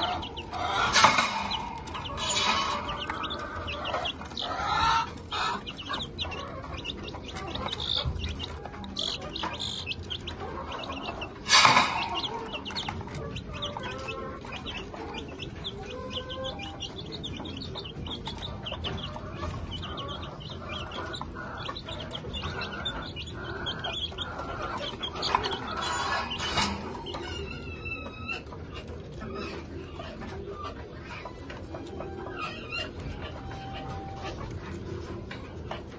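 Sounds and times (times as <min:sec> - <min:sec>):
chickens clucking: 0:00.0 - 0:35.9
chicks peeping: 0:00.0 - 0:35.9.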